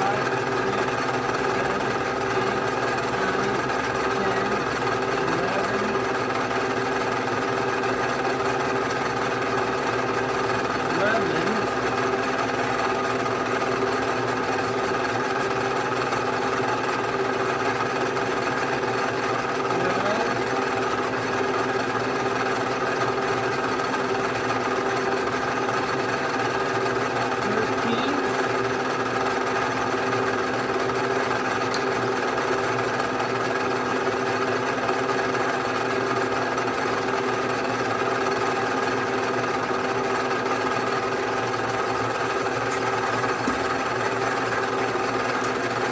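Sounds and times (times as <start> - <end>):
milling machine running: 0.0 - 45.9.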